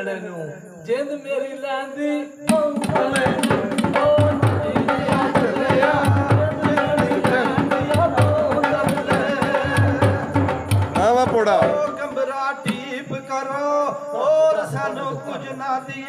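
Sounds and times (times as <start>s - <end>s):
man singing into microphone: 0.9s - 16.0s.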